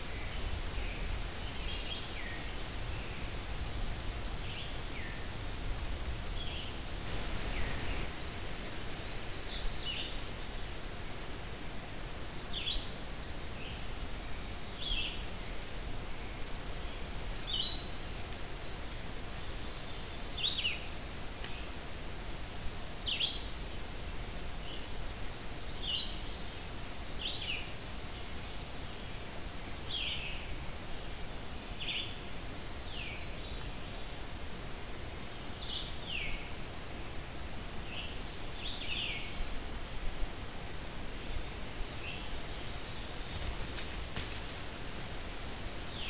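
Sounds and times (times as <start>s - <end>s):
songbird singing: 0.0s - 5.4s, 6.2s - 18.4s, 19.2s - 21.8s, 22.8s - 34.3s, 35.2s - 39.6s, 41.0s - 46.0s
low background hiss: 0.0s - 46.0s.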